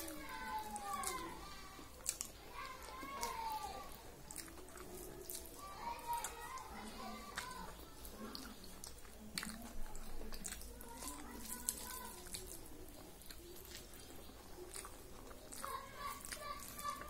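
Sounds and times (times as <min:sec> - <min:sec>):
faint voices: 0:00.0 - 0:17.0
person chewing food: 0:00.0 - 0:17.0
mouth clicks and smacks: 0:00.7 - 0:03.4, 0:04.0 - 0:17.0.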